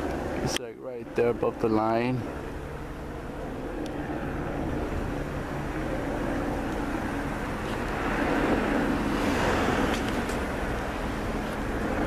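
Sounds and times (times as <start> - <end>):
helicopter flying overhead: 0.0 - 12.0.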